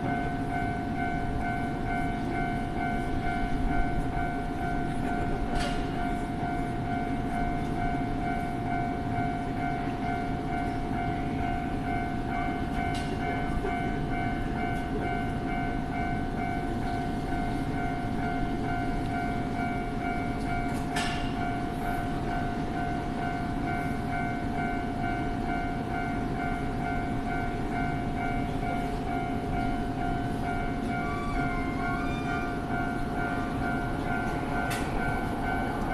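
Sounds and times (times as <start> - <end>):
level-crossing warning bell ringing: 0.0 - 35.9
train rumbling past: 0.0 - 35.9.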